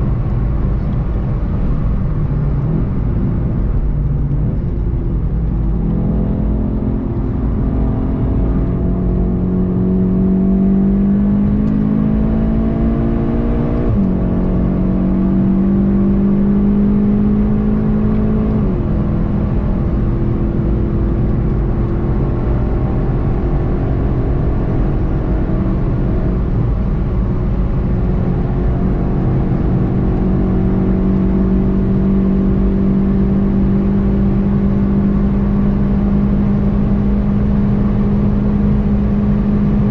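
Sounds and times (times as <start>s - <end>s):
car engine pulling hard: 0.0s - 39.9s
road rumble: 0.0s - 39.9s.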